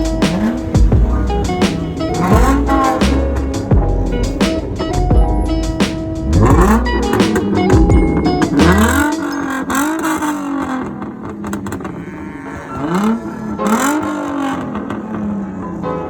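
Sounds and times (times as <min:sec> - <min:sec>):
car engine revving: 0:00.0 - 0:04.4, 0:06.2 - 0:07.8, 0:08.4 - 0:15.6.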